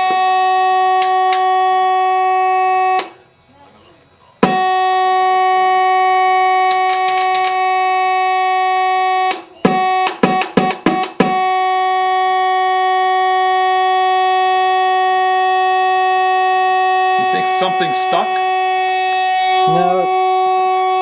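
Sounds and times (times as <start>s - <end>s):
fog horn steady tone: 0.0s - 21.0s.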